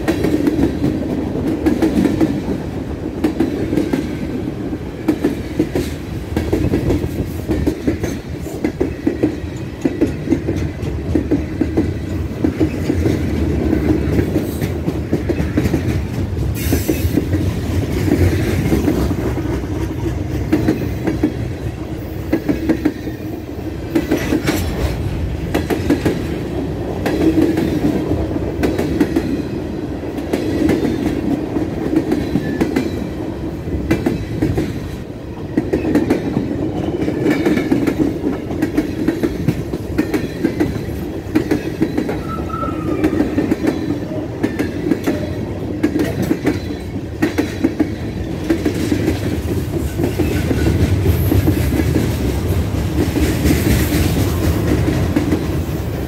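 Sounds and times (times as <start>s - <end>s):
freight train rumble: 0.0s - 56.0s.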